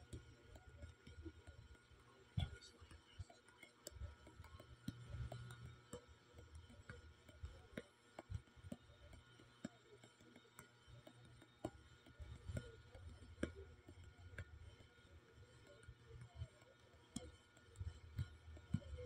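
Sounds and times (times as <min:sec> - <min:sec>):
faint clicks and ticks: 0:00.0 - 0:19.0.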